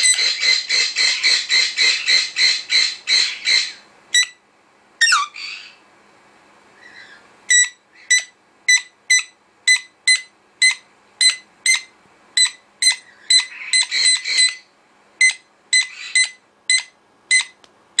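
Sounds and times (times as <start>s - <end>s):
parrot beep-like calls: 0.0s - 4.4s, 5.0s - 5.8s, 6.8s - 18.0s
parrot squawk: 0.0s - 4.4s, 5.0s - 5.8s, 6.8s - 17.5s.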